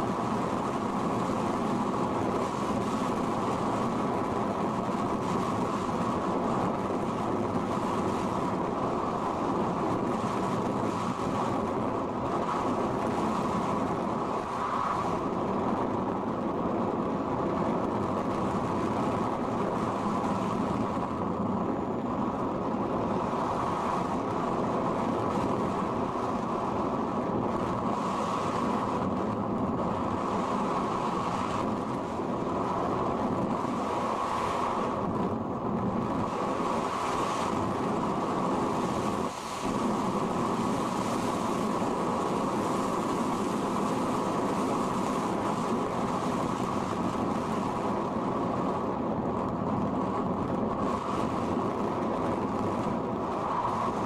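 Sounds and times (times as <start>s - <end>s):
air rushing past glider: 0.0s - 54.0s.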